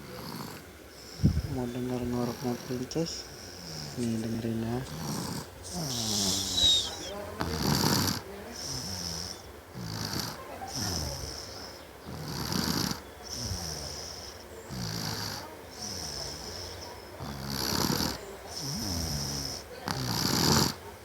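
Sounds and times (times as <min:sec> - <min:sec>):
hissing breath: 0:00.0 - 0:01.6, 0:02.4 - 0:20.8
child snoring: 0:00.0 - 0:20.8.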